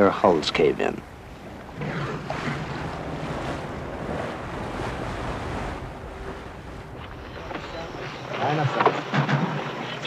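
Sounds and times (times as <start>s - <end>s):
wind buffeting microphone: 0.0s - 8.7s
faint boat motor hum: 0.0s - 10.0s
sea waves washing: 0.0s - 10.0s.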